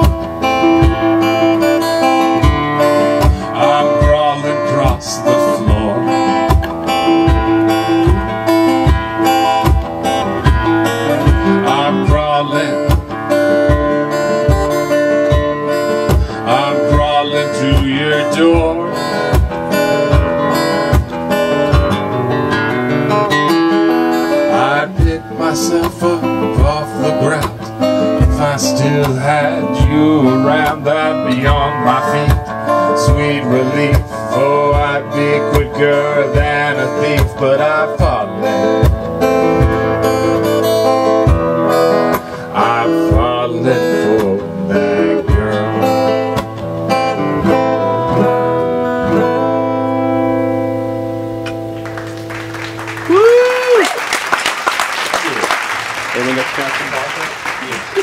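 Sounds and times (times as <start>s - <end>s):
acoustic guitar strummed: 0.0s - 58.0s.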